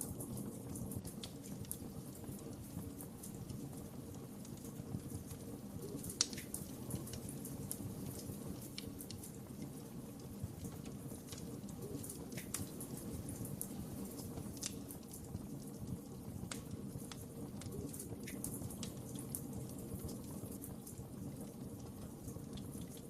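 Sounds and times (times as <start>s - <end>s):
fire crackling and popping: 0.0s - 23.0s
wood fire rumbling: 0.0s - 23.0s.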